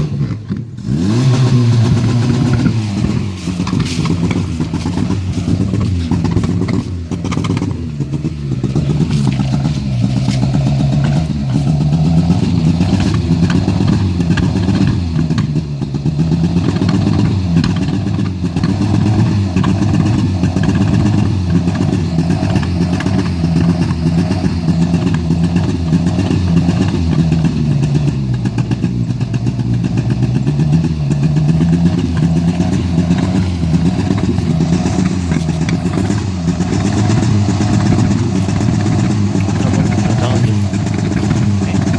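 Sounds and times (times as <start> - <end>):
engine revving: 0.0 - 41.9
exhaust popping and crackling: 0.0 - 41.9.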